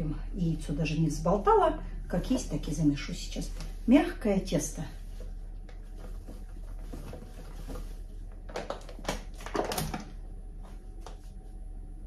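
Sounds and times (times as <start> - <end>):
dough kneaded by hand: 0.0 - 12.0.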